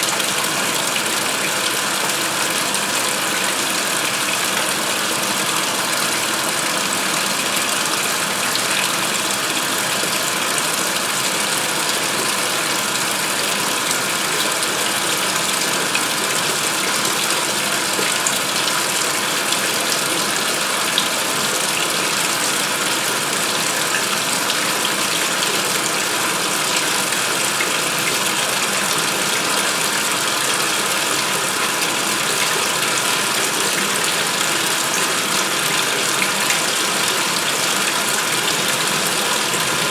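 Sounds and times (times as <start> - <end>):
washing machine filling with water: 0.0 - 39.9.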